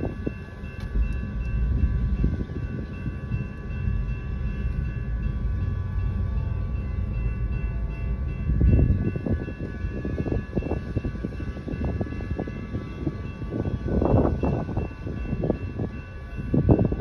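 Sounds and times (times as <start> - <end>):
crossing bell ringing: 0.0 - 17.0
freight train rumbling on track: 0.0 - 17.0.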